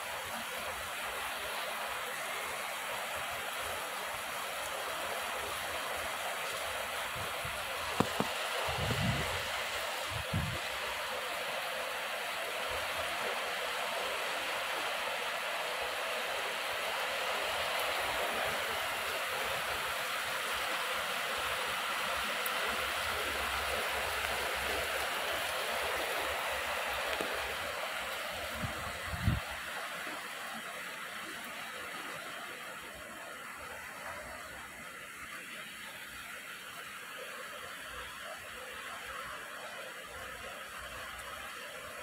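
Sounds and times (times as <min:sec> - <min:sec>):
heavy rain on roofs: 0:00.0 - 0:42.0.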